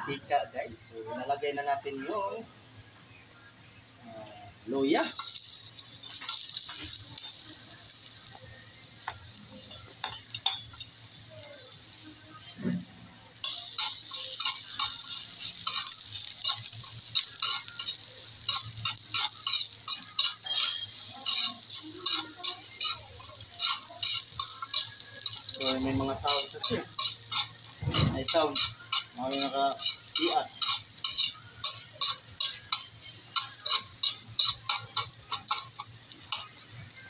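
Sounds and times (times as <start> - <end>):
food sizzling in hot oil: 4.7 - 37.0
metal spatula scraping a wok: 5.1 - 37.0.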